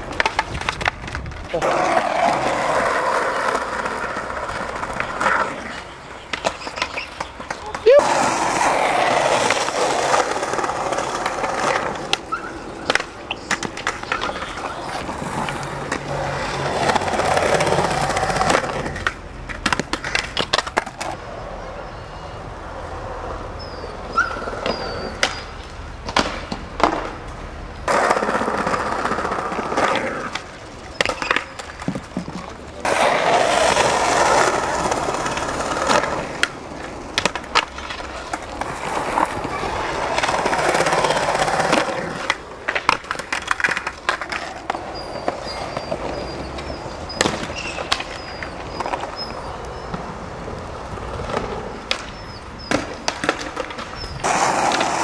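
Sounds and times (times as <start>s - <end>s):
skateboard popping and landing clacks: 0.0s - 21.2s, 24.2s - 50.2s, 50.9s - 55.0s
skateboard wheels rolling on concrete: 0.0s - 55.0s.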